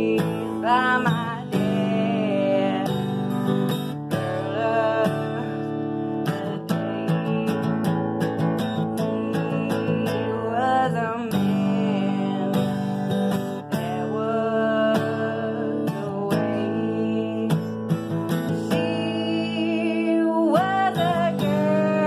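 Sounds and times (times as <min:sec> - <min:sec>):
acoustic guitar strumming: 0:00.0 - 0:22.0
woman singing: 0:00.0 - 0:22.0.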